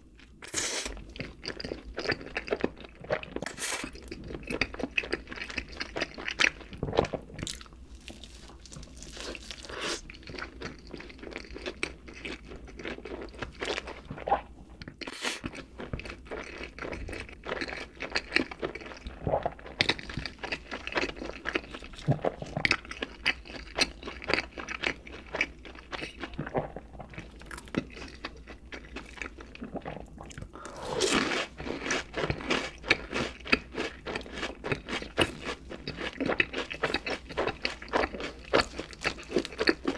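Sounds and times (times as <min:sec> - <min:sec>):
person eating crunchily: 0:00.0 - 0:39.9.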